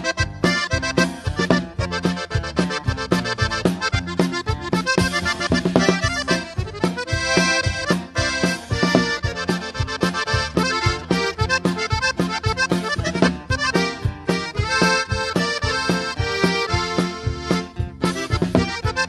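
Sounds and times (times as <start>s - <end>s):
accordion chords: 0.0s - 19.0s
drums steady beat: 0.0s - 19.0s
live band playing: 0.0s - 19.0s.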